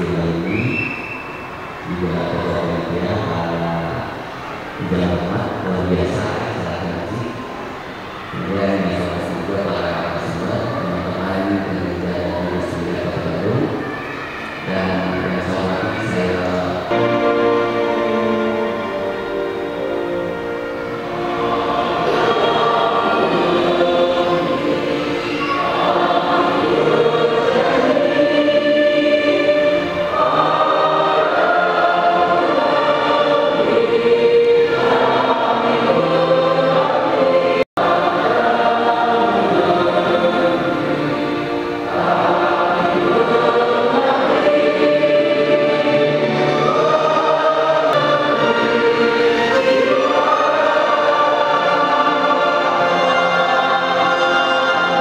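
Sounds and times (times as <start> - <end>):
group of people singing: 8.0 - 20.0, 20.8 - 55.0.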